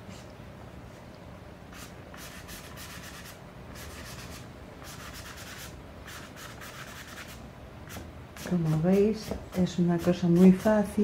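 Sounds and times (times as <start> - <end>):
brush scrubbing on paper: 1.7 - 11.0.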